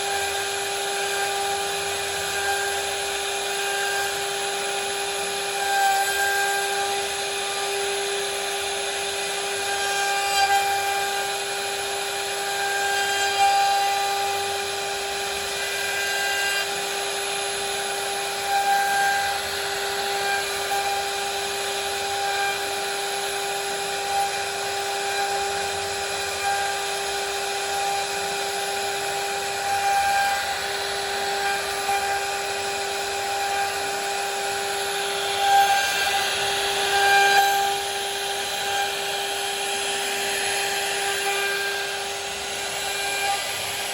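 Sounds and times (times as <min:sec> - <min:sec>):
bit carving wood: 0:00.0 - 0:43.9
router spindle whining: 0:00.0 - 0:43.9.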